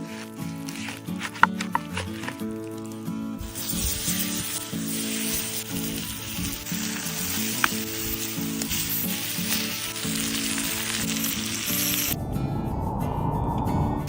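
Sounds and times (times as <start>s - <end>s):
meat sizzling on hot stone: 0.0s - 12.2s
background music with low notes: 0.0s - 14.0s.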